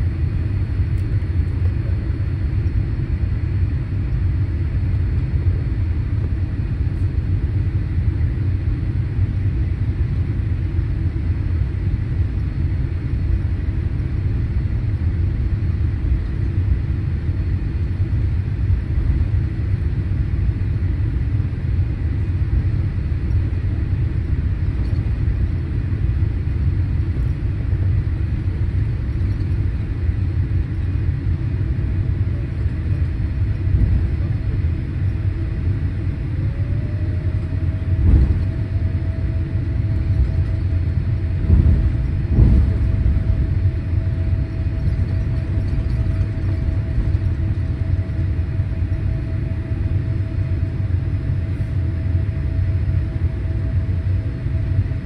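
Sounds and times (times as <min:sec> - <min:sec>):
airplane taxiing rumble: 0:00.0 - 0:55.0
rising jet engine whine: 0:00.0 - 0:55.0.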